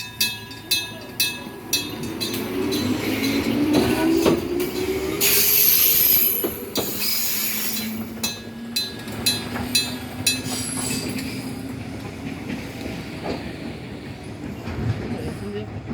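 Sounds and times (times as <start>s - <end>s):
train running hum: 0.0s - 15.9s
train wheels clacking on rails: 0.0s - 15.9s.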